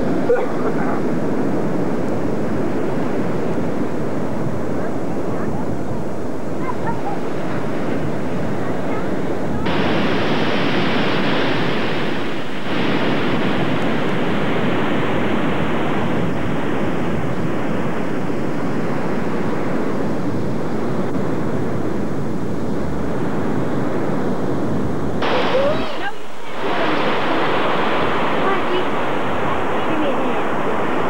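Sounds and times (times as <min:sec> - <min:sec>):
waves crashing: 0:00.0 - 0:31.0.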